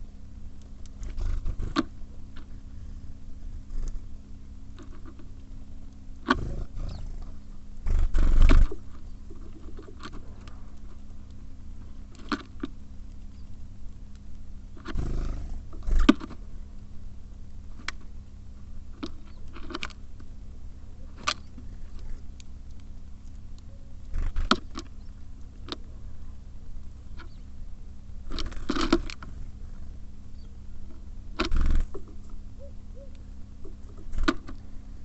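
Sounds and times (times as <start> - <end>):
birds rustling flurries: 0.0 - 35.0
steady low hum: 0.0 - 35.0
birds pecking and tapping: 3.6 - 34.7.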